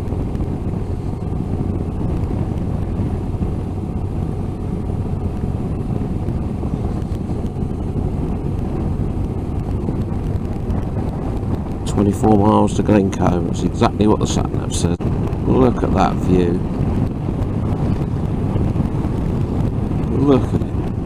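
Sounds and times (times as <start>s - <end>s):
motorcycle engine drone: 0.0s - 21.0s
wind noise on microphone: 0.0s - 21.0s.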